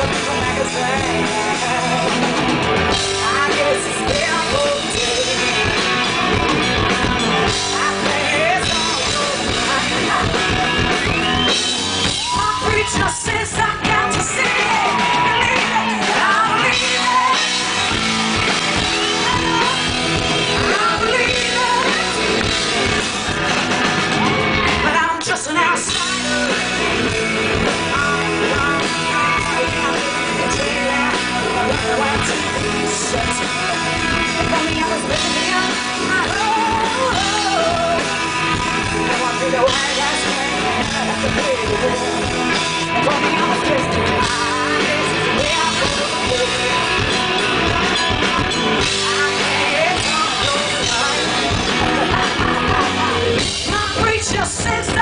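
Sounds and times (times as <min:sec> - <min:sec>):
woman singing: 0:00.0 - 0:23.4, 0:24.6 - 0:55.0
electric guitar: 0:00.0 - 0:55.0
live rock band playing: 0:00.0 - 0:55.0.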